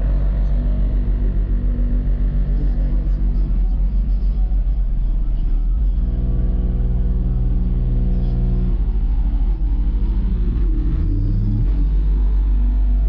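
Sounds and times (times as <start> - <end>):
deep subwoofer bass notes: 0.0 - 13.0.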